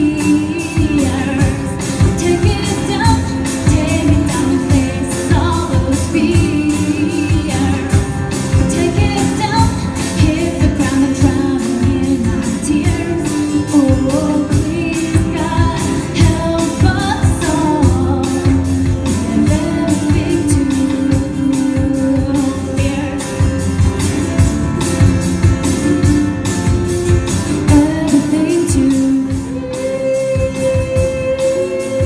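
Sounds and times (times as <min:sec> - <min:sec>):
person singing: 0:00.0 - 0:23.7, 0:27.5 - 0:32.0
steady drum beat: 0:00.0 - 0:32.0.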